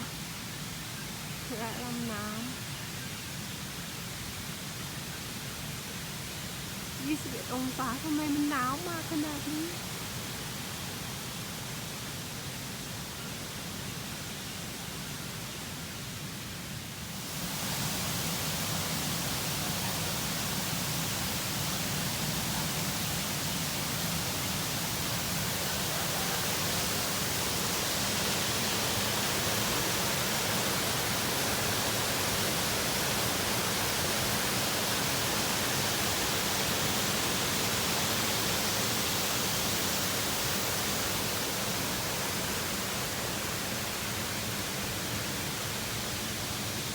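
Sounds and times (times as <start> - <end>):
waterfall and stream rushing: 0.0 - 46.9.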